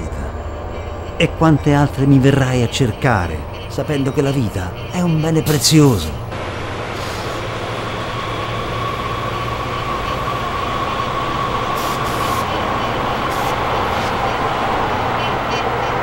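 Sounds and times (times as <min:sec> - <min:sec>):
high whine: 0:00.0 - 0:16.0
metro train rumble: 0:00.0 - 0:16.0.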